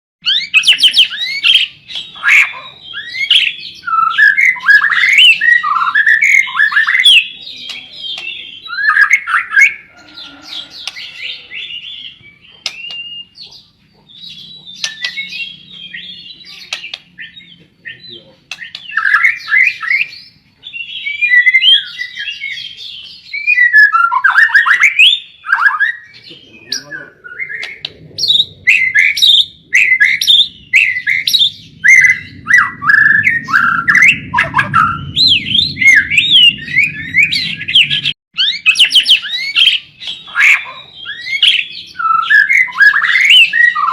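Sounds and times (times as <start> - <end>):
songbird singing chattering phrases: 0.2 - 32.4, 33.6 - 43.9.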